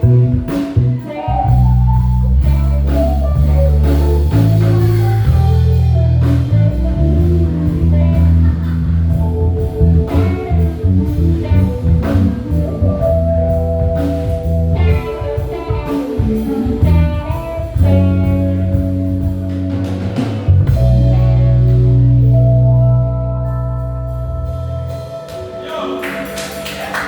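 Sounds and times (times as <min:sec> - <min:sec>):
drum kit: 0:00.0 - 0:27.0
electric bass: 0:00.0 - 0:27.0
guitar: 0:00.0 - 0:27.0
keyboard: 0:00.0 - 0:27.0.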